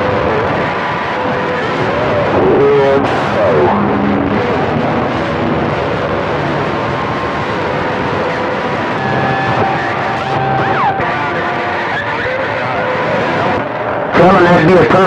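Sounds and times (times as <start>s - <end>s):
radio hiss and static: 0.0s - 15.0s.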